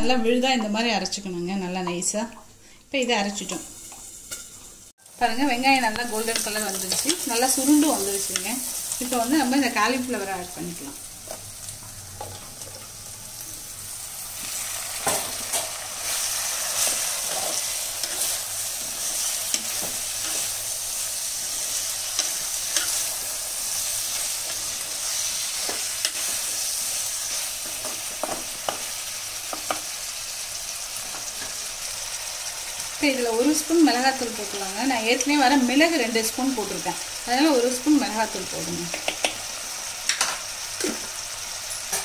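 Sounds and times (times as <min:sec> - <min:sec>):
food sizzling in hot oil: 0:03.1 - 0:42.0.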